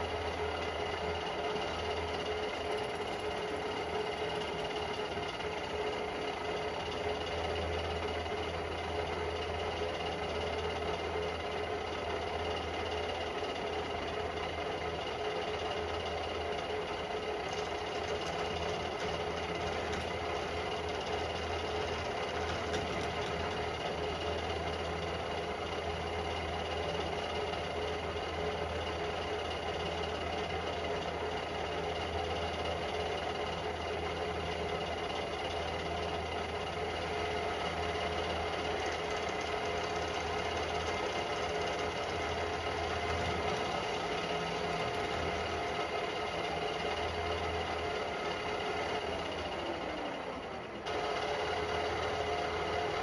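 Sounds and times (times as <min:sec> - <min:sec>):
milling machine cutting metal: 0:00.0 - 0:53.0.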